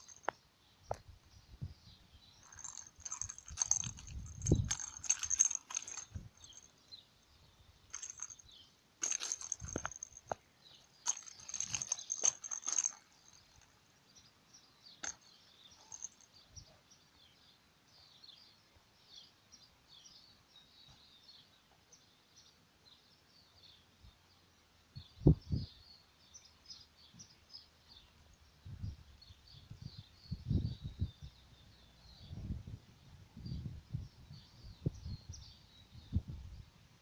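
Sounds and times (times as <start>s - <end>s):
small birds chirping: 0.0s - 36.8s.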